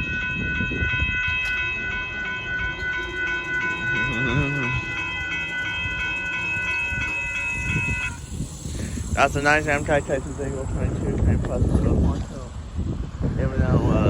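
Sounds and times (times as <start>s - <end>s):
pulsing high-pitched ringing tone: 0.0s - 14.0s
train rumbling past: 0.0s - 14.0s.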